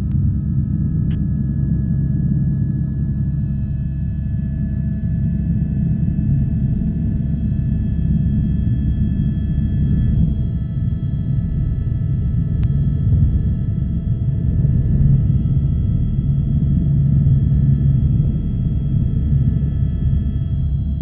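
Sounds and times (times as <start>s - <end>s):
helicopter engine and rotor: 0.0s - 21.0s
high turbine whine: 0.0s - 21.0s.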